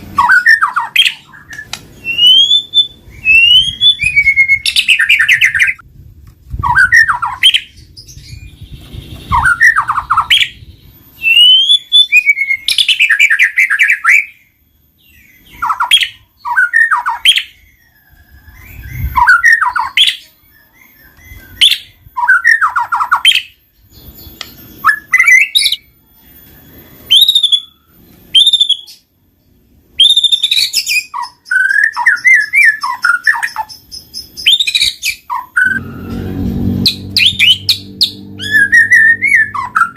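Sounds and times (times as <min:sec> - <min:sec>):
songbird whistling song: 0:00.0 - 0:05.9, 0:06.5 - 0:39.9.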